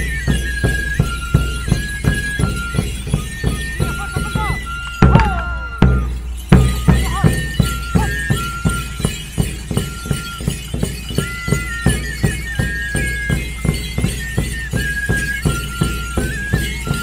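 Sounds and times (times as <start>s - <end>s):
high flute melody: 0.0s - 17.0s
steady drum beat: 0.0s - 17.0s.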